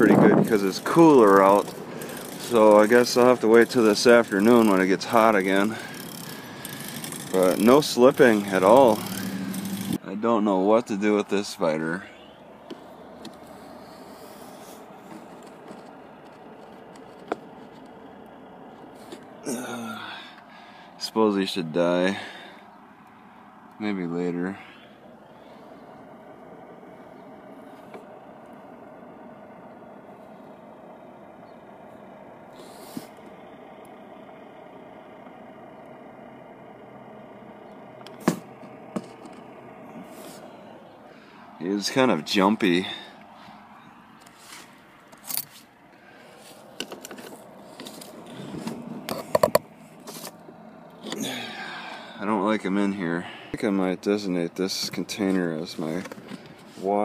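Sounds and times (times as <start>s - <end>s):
car interior background noise: 0.0s - 57.0s.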